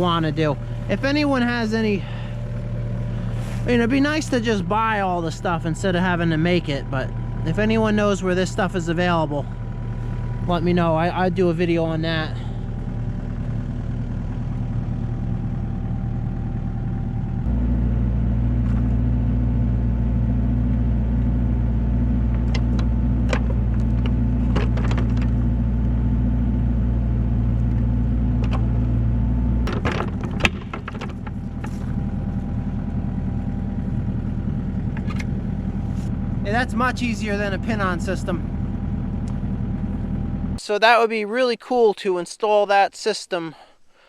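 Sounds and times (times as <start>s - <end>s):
excavator diesel engine running: 0.0s - 40.6s.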